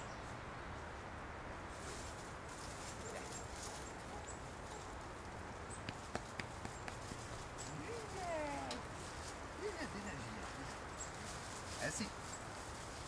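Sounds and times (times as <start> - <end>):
outdoor background noise: 0.0 - 13.0
dogs rustling dry leaves: 1.6 - 13.0.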